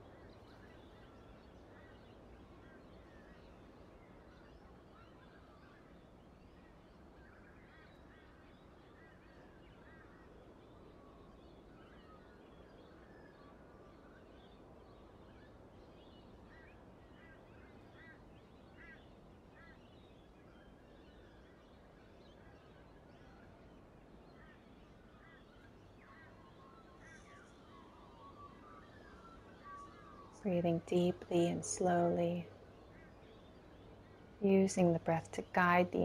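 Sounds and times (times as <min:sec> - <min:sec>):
birds chirping faintly: 0:00.0 - 0:36.0.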